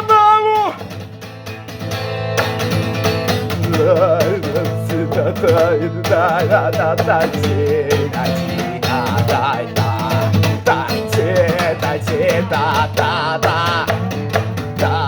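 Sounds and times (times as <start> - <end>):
instrumental rock band music: 0.0 - 15.0.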